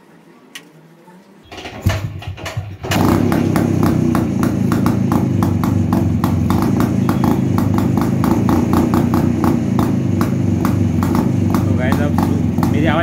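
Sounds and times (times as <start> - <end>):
two-stroke motorcycle engine running: 1.5 - 13.0.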